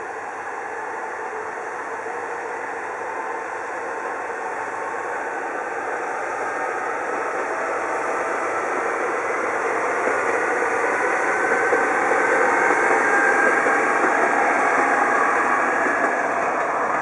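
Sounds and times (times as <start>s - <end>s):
diesel train running on rails: 0.0s - 17.0s.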